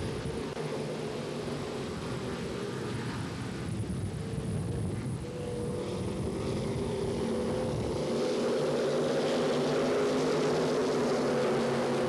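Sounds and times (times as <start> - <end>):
racing car engines droning: 0.0 - 12.0.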